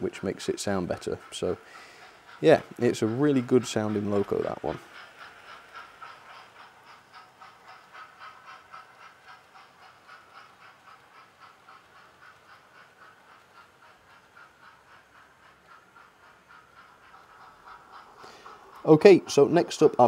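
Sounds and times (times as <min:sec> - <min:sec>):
model train steam chuffs: 0:00.0 - 0:20.0.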